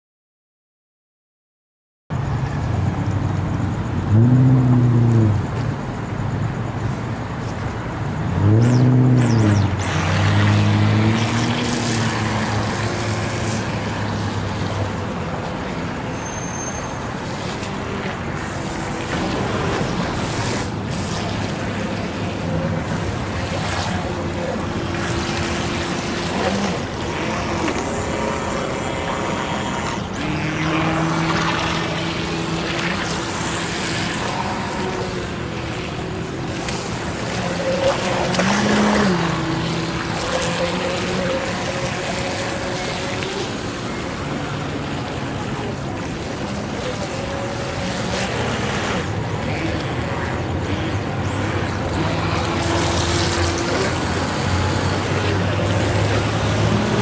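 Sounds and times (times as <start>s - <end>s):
road traffic: 2.1s - 57.0s
electric motor of rc boat whining: 8.3s - 57.0s.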